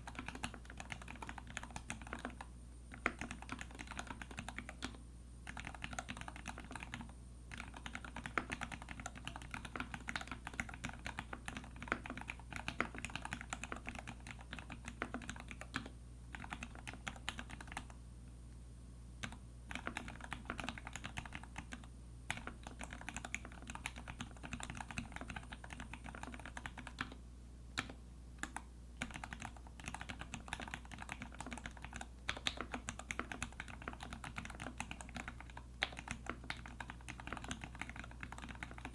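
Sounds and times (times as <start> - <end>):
mechanical keyboard typing: 0.0 - 18.0, 19.2 - 27.2, 27.8 - 38.9.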